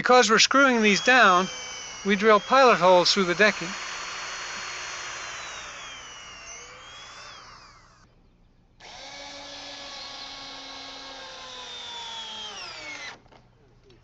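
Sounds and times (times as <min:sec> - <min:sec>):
power drill boring into wood: 0:00.5 - 0:08.0, 0:08.8 - 0:13.3.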